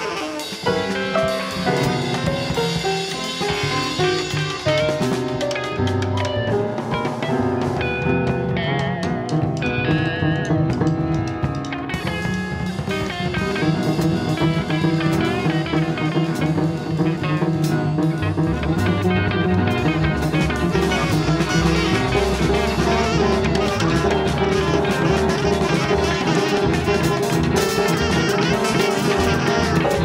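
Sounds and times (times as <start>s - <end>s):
busy drum kit: 0.0s - 30.0s
live jazz ensemble music: 0.0s - 30.0s.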